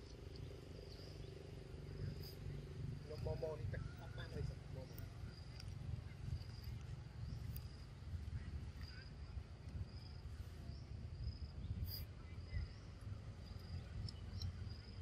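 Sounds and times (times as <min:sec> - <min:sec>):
continuous low rumble: 0:00.0 - 0:15.0
insect chirping: 0:00.0 - 0:15.0.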